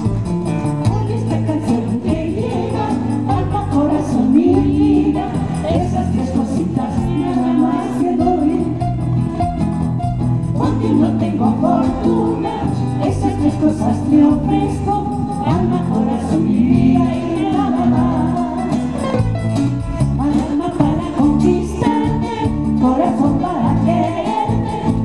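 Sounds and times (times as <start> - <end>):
acoustic guitar: 0.0 - 25.0
woman singing into microphone: 0.9 - 9.1, 10.6 - 19.0, 20.1 - 25.0.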